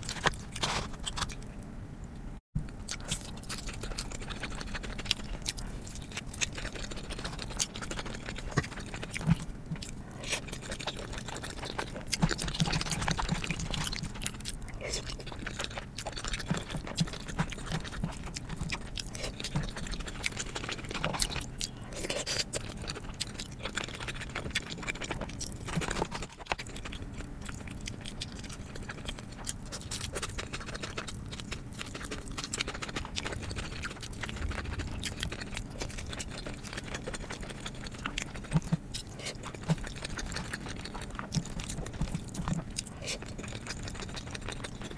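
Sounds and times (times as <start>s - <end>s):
chewing and biting food: 0.0s - 1.5s, 2.6s - 44.9s.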